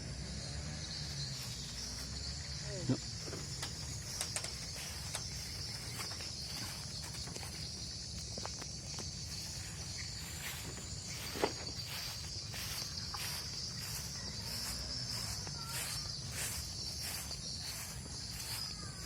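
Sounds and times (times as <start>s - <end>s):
insect chorus: 0.0s - 19.0s.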